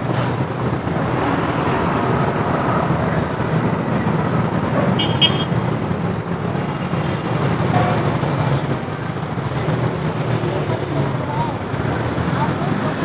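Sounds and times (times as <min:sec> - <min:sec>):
low rumble of vehicle engines: 0:00.0 - 0:13.0.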